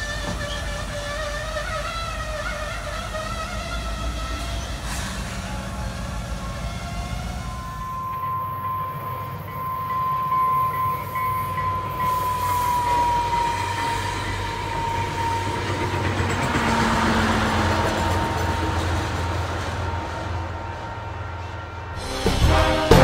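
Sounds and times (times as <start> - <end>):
diesel locomotive engine rumble: 0.0 - 23.0
train passing with high whine: 0.0 - 23.0
train rolling noise: 0.0 - 23.0.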